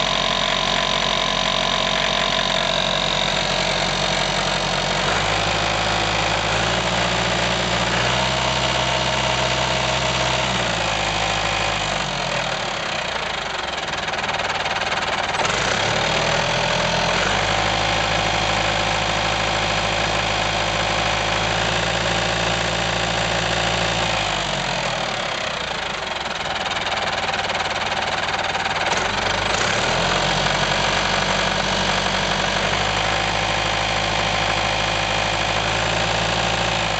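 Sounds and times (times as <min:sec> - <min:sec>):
tractor diesel engine revving: 0:00.0 - 0:36.9.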